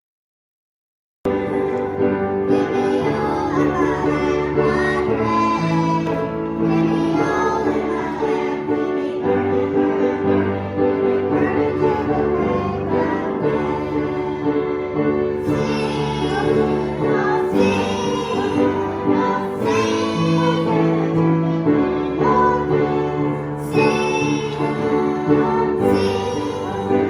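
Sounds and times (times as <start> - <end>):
person singing: 1.3 - 27.0.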